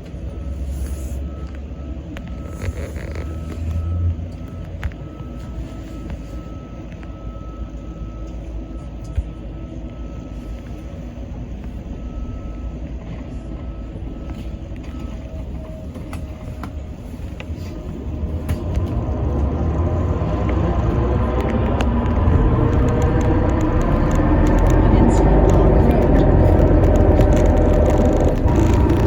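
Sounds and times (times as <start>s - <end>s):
bus interior rumble: 0.0s - 29.0s.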